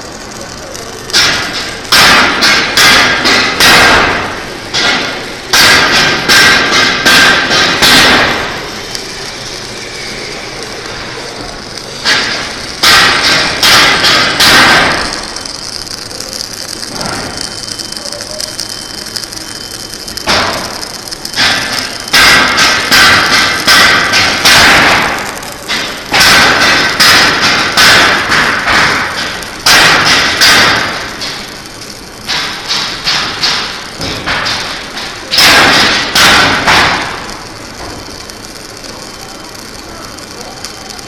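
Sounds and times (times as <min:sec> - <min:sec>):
welding arc crackling: 0:00.0 - 0:41.0.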